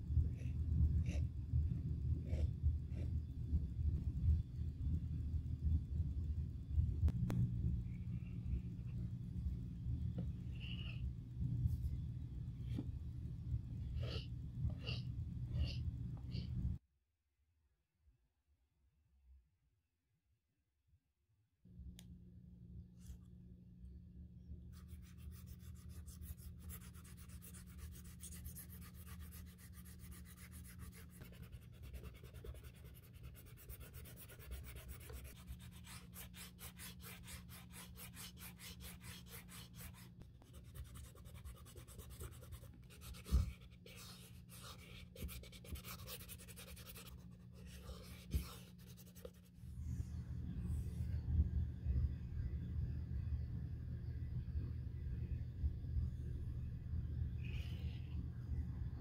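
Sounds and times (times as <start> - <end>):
steady low hum: 0.0 - 16.8, 21.7 - 59.0.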